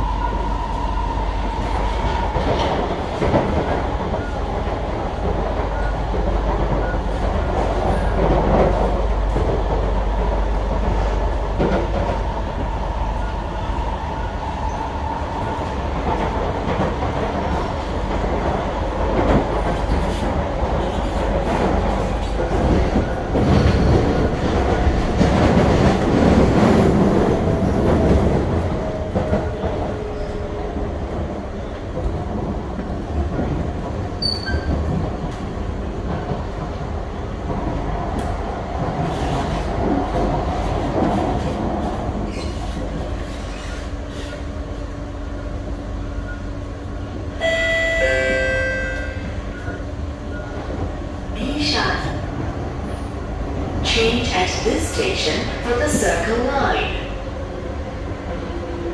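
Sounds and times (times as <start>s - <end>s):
train wheel and rail rumble: 0.0s - 58.9s.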